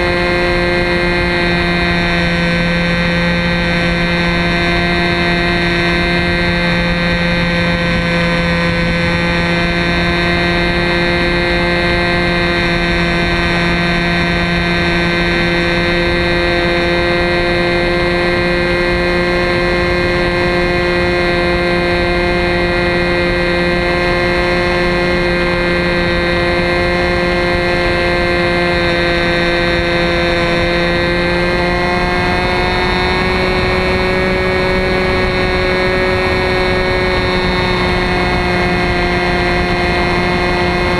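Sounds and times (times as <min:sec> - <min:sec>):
model plane engine running: 0:00.0 - 0:40.9.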